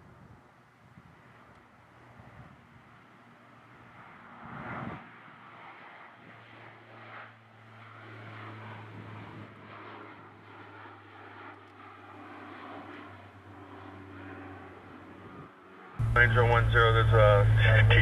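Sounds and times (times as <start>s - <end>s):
distant aircraft engines drone: 0.0s - 18.0s.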